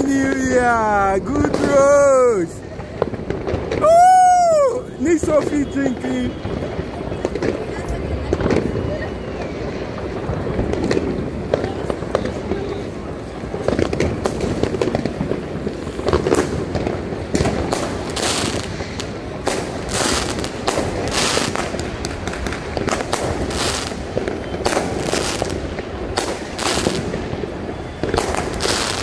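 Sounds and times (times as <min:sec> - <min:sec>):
fireworks sharp bangs: 0:00.0 - 0:29.0.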